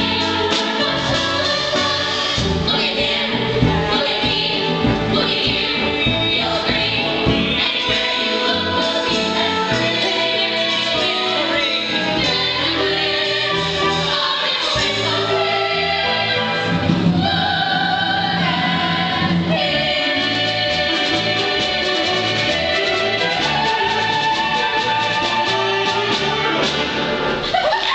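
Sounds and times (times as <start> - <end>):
instrumental accompaniment: 0.0 - 27.8.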